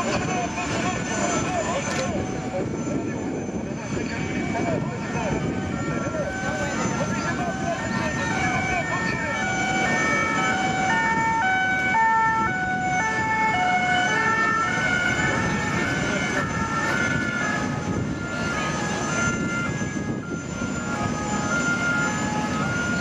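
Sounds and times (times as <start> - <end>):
jet airliner rumble and whine: 0.0 - 23.0
multi-tone warning melody: 0.0 - 23.0.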